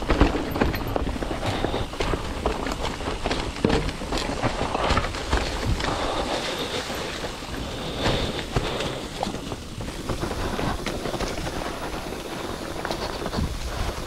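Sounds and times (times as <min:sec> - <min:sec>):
bike frame rattling over rocks: 0:00.0 - 0:14.0
bike tyres crunching through leaves: 0:00.0 - 0:14.0
wind noise on microphone: 0:00.0 - 0:14.0.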